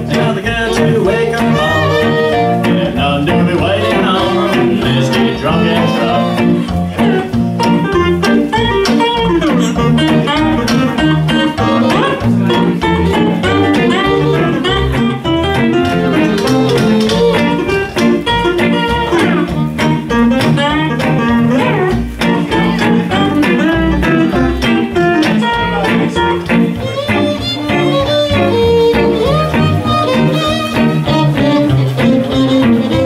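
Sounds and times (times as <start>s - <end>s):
archtop guitar: 0.0s - 33.0s
fiddle: 0.0s - 33.0s
lap steel guitar: 0.0s - 33.0s
upright bass: 0.0s - 33.0s
clarinet: 1.0s - 33.0s.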